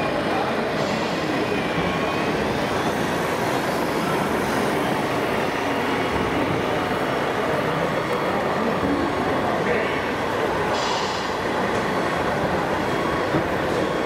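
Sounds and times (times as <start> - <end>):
indoor crowd din: 0.0 - 14.0.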